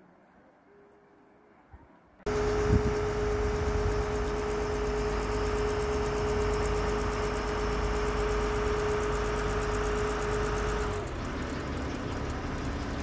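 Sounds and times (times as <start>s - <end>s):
boat engine droning: 2.3s - 13.0s.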